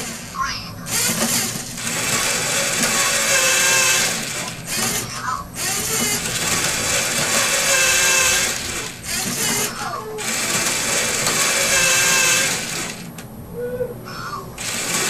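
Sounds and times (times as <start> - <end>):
motors and plastic gears whirring: 0.0 - 13.3, 14.6 - 15.0.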